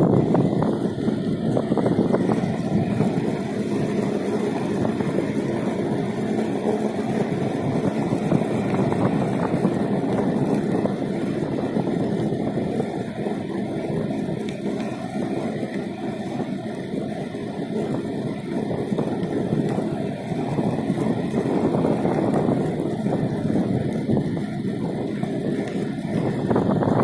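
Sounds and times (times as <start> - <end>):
wheels rolling over asphalt: 0.0 - 27.0.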